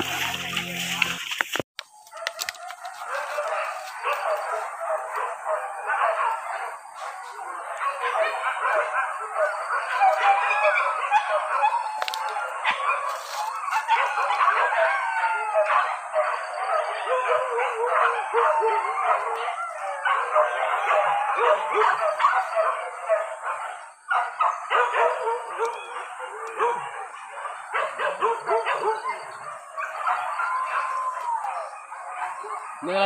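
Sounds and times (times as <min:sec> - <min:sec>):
dogs baying and yelping: 0:01.9 - 0:33.0.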